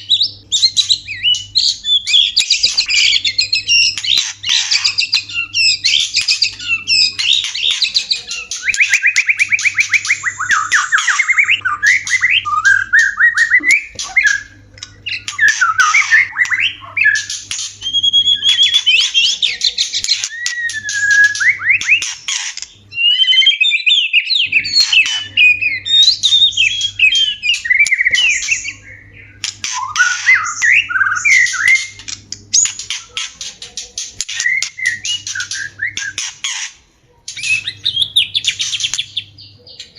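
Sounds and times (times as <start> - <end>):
birds singing whistled trills: 0.0 - 36.7, 37.3 - 39.9.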